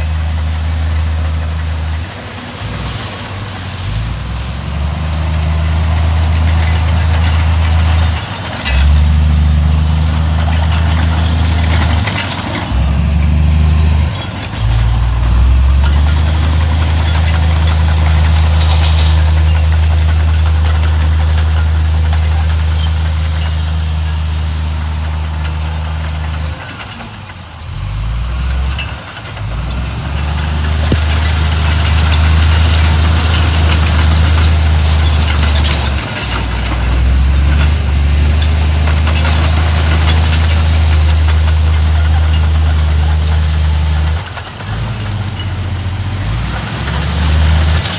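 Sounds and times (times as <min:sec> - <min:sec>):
heavy diesel engine under load: 0:00.0 - 0:47.9.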